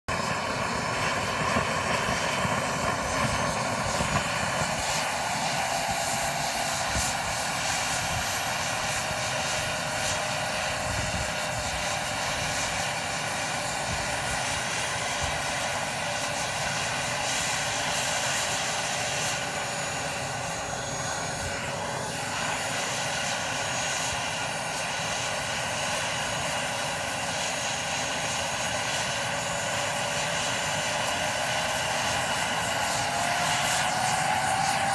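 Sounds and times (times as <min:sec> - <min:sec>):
model helicopter rotor whine: 0:00.1 - 0:34.9.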